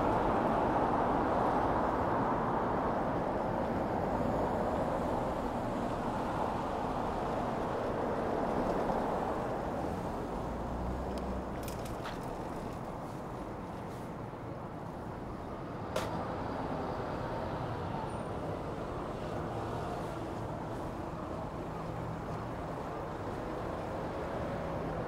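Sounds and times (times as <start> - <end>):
city road traffic: 0.0 - 25.0.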